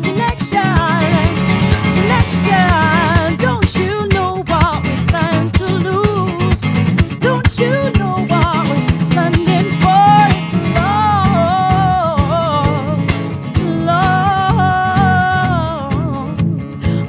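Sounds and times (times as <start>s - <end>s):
person singing: 0.0s - 16.4s
acoustic guitar strummed fast: 0.0s - 17.0s.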